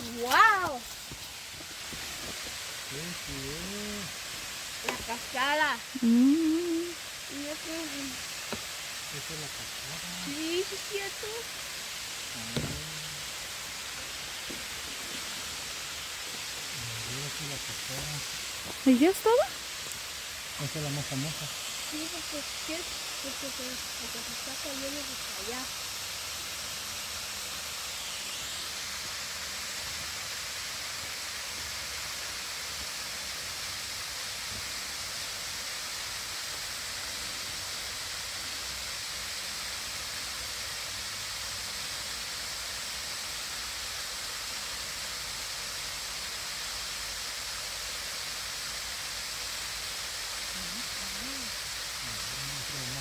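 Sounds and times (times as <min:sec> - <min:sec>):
waterfall rushing: 0:00.0 - 0:40.1, 0:48.4 - 0:53.0.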